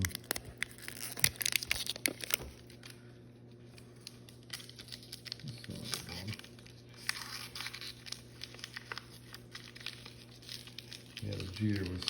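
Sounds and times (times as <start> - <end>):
cards rustling: 0.0 - 3.0, 3.6 - 12.0
foil wrapper crinkling: 0.0 - 12.0.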